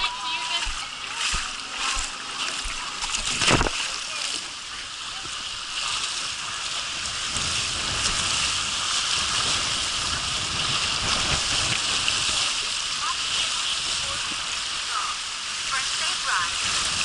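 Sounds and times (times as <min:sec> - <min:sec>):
water rushing down a slide: 0:00.0 - 0:17.0.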